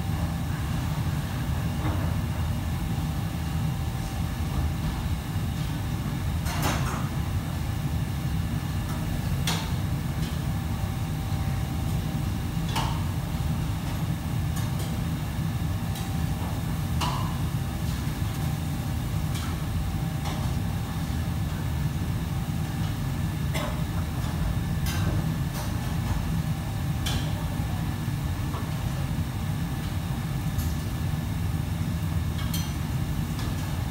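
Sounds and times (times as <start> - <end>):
low rumble of machinery: 0.0 - 33.9.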